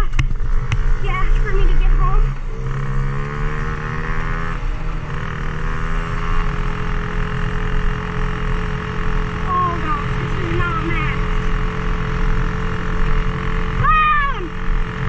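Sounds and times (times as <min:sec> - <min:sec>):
dirt bike engine drone: 0:00.0 - 0:15.0.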